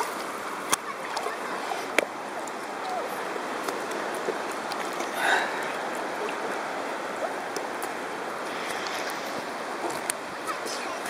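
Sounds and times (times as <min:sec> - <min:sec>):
seawater sloshing and gurgling: 0:00.0 - 0:11.0
water splash: 0:00.0 - 0:11.0.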